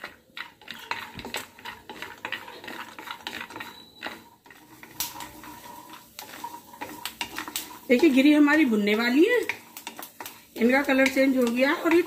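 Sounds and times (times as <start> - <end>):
peanuts rattling in a pan: 0.0 - 12.0
spatula scraping a pan: 0.0 - 12.0.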